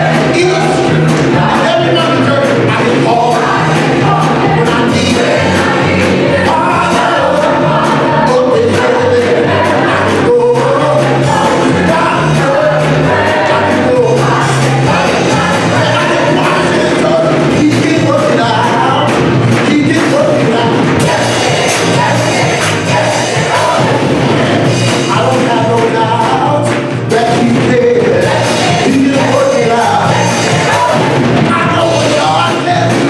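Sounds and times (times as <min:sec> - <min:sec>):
band with drums playing: 0:00.0 - 0:33.0
people singing: 0:00.0 - 0:33.0.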